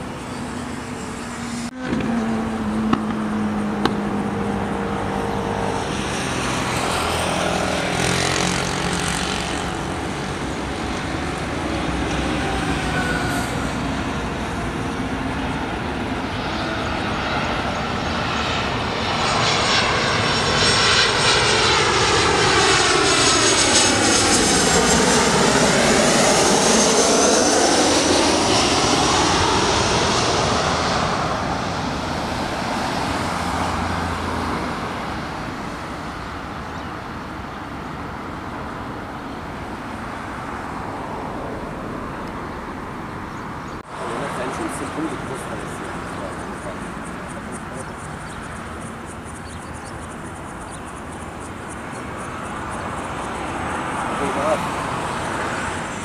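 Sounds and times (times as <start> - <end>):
sweeping jet whine: 0.0 - 38.0, 43.6 - 56.0
jet engines passing overhead: 0.0 - 56.0.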